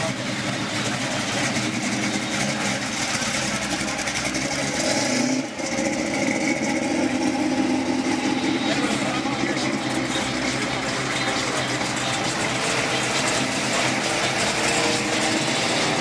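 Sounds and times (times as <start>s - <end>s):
truck engine driving past: 0.0s - 16.0s.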